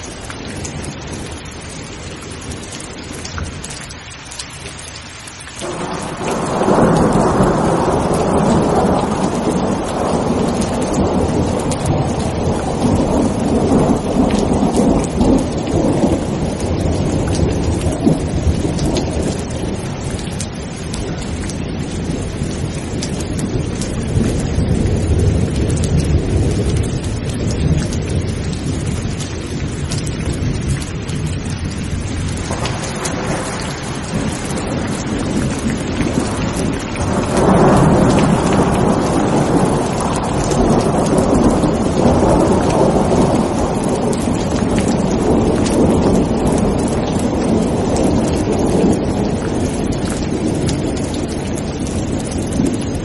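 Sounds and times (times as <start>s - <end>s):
heavy rain: 0.0s - 53.0s
thunder rumbling: 5.6s - 53.0s.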